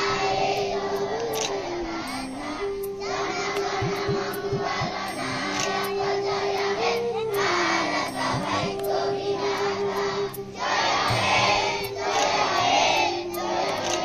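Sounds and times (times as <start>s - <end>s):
children singing in chorus: 0.0s - 14.0s
held stepping melody line: 2.2s - 13.7s.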